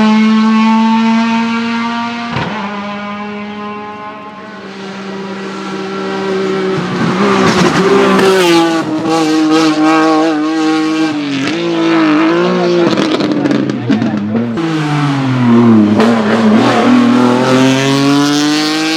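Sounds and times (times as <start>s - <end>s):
race car engine at high revs: 0.0s - 18.9s.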